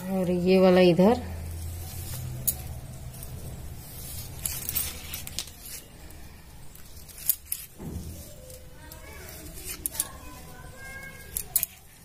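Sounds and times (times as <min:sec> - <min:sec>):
cloth rustling: 0:00.0 - 0:12.0.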